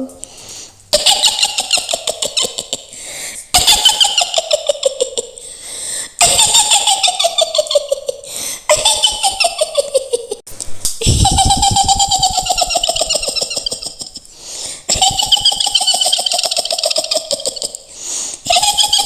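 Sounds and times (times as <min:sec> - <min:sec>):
high-pitched witch cackle: 0:00.9 - 0:05.4, 0:06.2 - 0:10.4, 0:11.0 - 0:14.3, 0:14.9 - 0:19.0.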